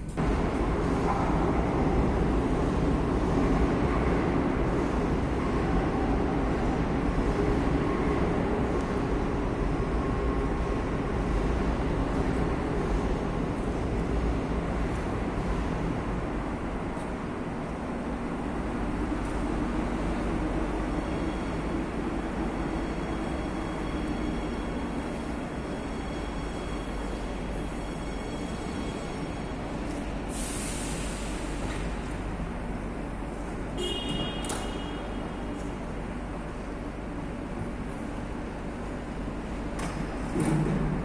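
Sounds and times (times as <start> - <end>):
train low rumble: 0.0 - 41.0.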